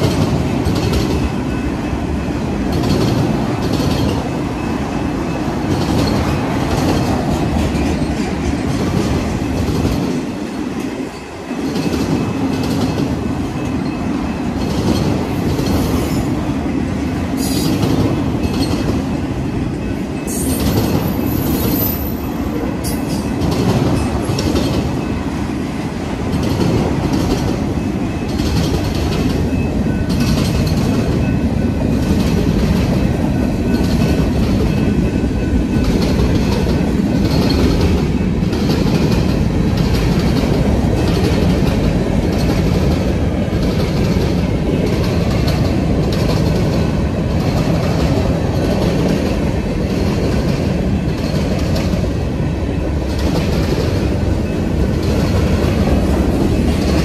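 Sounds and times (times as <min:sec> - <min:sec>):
freight train rumbling and clattering: 0:00.0 - 0:57.0.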